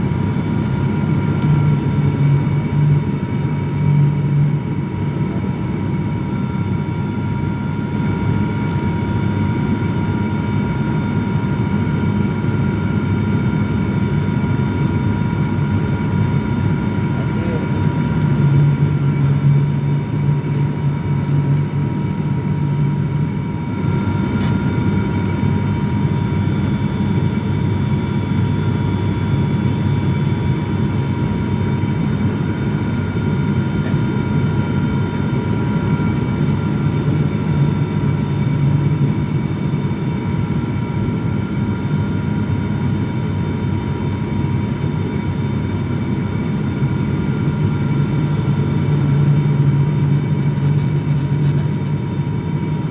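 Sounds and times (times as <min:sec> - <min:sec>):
airliner engine drone: 0:00.0 - 0:52.9
high engine whine: 0:00.0 - 0:52.9.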